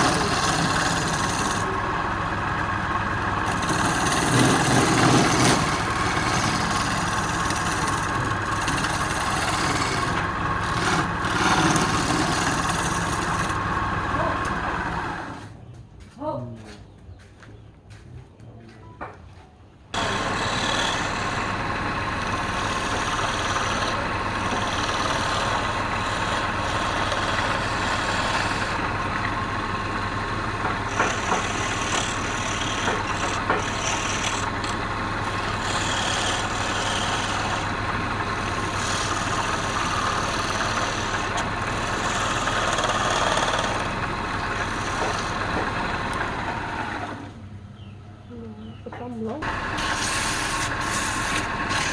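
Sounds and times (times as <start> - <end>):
electric workshop machine humming: 0.0 - 15.5, 20.0 - 47.5, 49.4 - 51.9.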